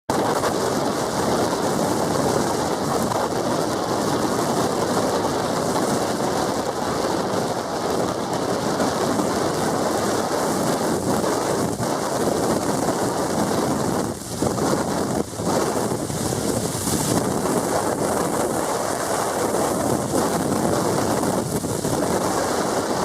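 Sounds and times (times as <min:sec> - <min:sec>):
rushing wind: 0:00.1 - 0:23.0.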